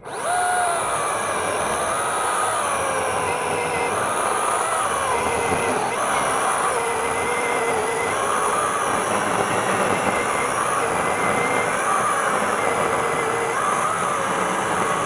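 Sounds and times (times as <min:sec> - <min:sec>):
electric chainsaw running: 0:00.0 - 0:15.0.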